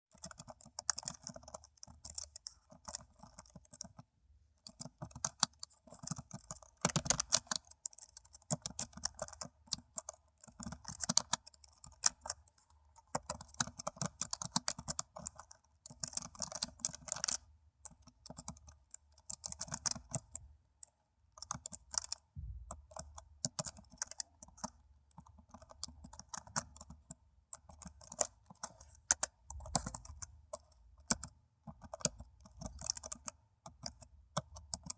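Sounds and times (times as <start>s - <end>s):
typing on laptop keyboard: 0.1s - 20.5s, 21.2s - 34.9s.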